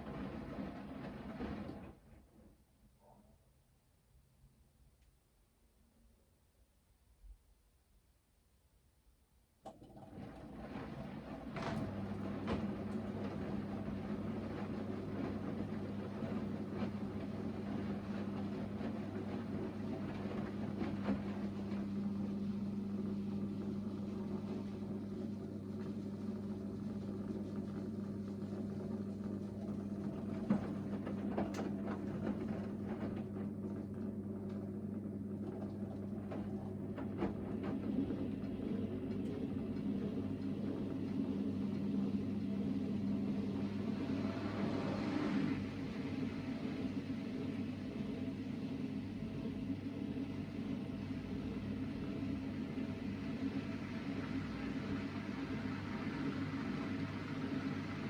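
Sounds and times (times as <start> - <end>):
washing machine drain pump humming: 0.0 - 2.3, 9.6 - 58.0.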